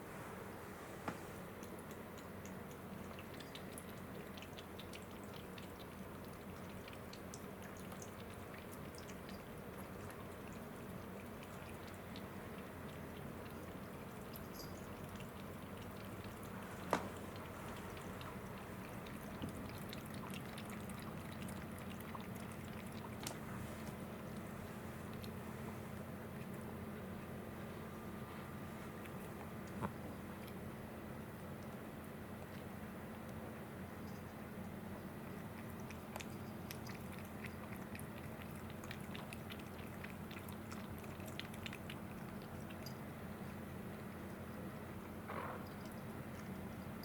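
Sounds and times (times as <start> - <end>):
kitten lapping water: 1.2 - 47.0.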